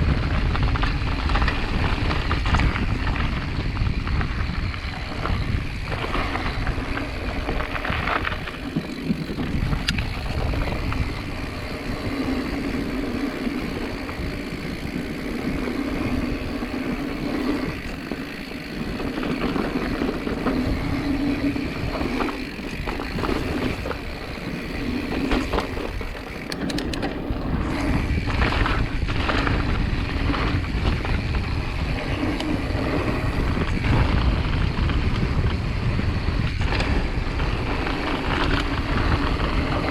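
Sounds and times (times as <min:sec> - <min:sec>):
continuous rumble: 0:00.0 - 0:39.9
scattered clicks and rattles: 0:00.0 - 0:39.9
wind buffeting microphone: 0:00.0 - 0:39.9.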